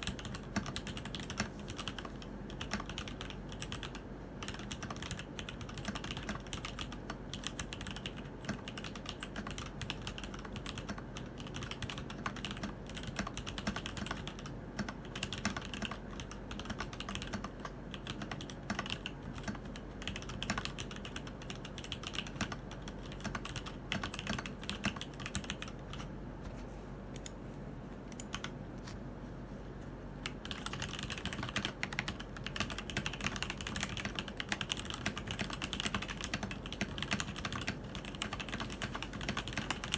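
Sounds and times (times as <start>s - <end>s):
mechanical keyboard typing clicks: 0.0s - 26.1s, 28.1s - 28.6s, 30.2s - 39.9s.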